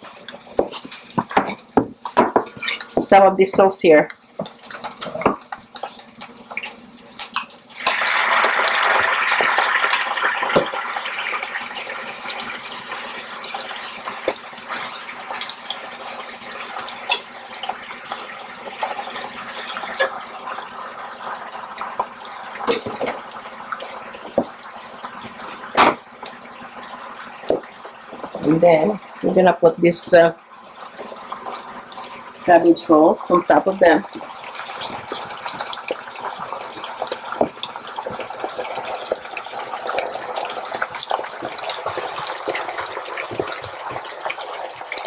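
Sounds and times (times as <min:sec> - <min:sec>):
sauce sizzling in hot pot: 0:00.0 - 0:45.0.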